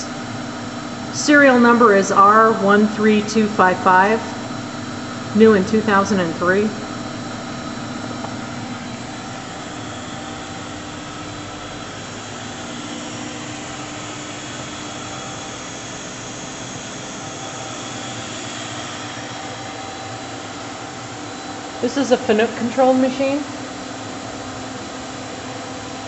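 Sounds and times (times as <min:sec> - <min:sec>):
mechanical whirring hum: 0:00.0 - 0:26.0.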